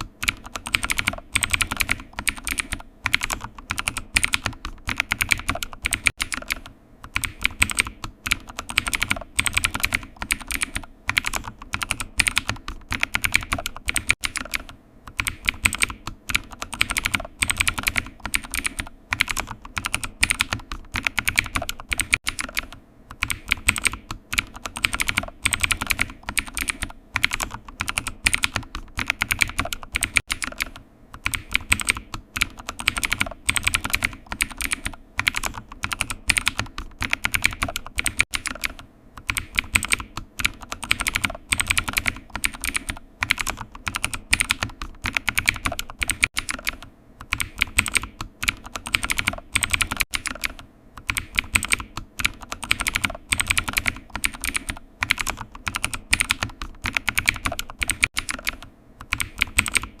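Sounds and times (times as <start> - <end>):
keyboard typing: 0.0 - 60.0.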